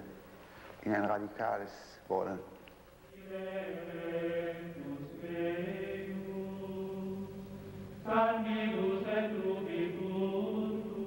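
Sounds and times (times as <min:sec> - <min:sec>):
low chanted voices: 0:00.0 - 0:11.0.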